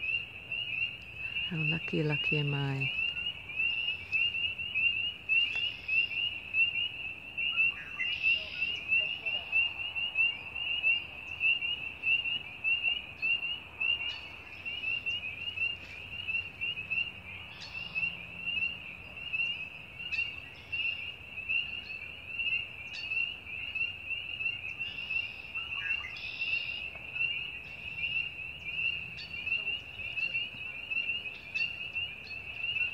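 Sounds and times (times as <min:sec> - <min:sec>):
frogs calling: 0:00.0 - 0:32.9.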